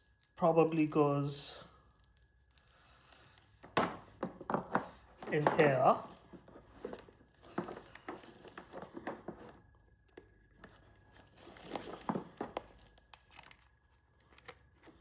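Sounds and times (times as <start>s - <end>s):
plastic packaging crinkling: 1.7s - 15.0s.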